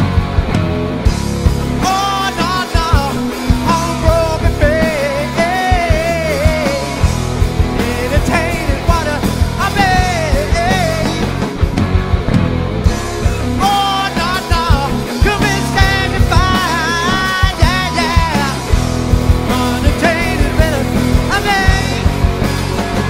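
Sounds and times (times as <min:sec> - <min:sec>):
drum and cymbal hits: 0:00.0 - 0:23.0
rock band playing live: 0:00.0 - 0:23.0.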